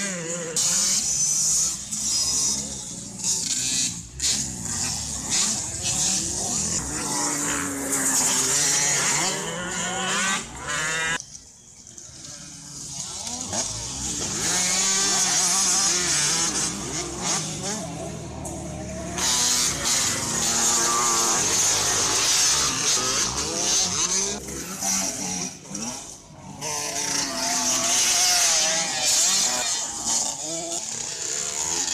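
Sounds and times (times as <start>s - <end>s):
motocross bikes revving and racing: 0.0s - 31.9s.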